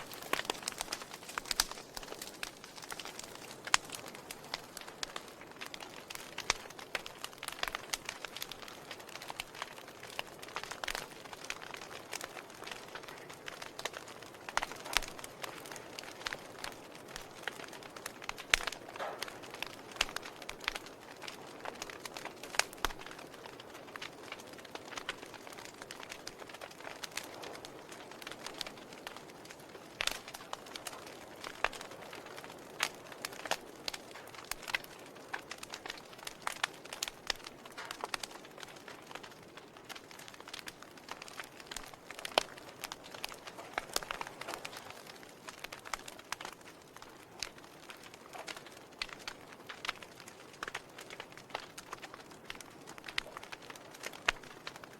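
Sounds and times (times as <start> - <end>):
soft fire hiss: 0.0 - 54.9
wood fire crackling and popping: 0.0 - 54.9.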